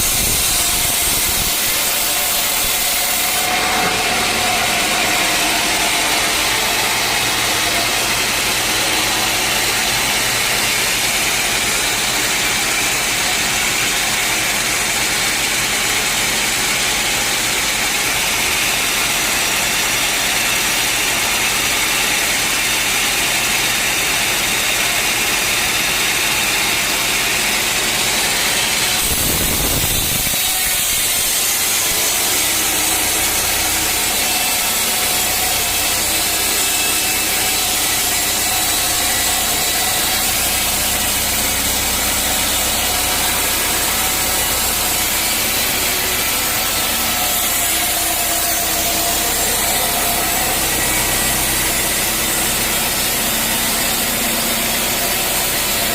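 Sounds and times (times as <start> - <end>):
saw cutting wood: 0.0 - 55.9.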